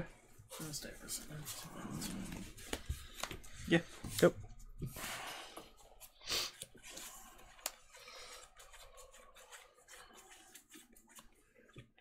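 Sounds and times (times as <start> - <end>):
cards rustling and sliding: 0.5 - 5.0, 5.6 - 12.0.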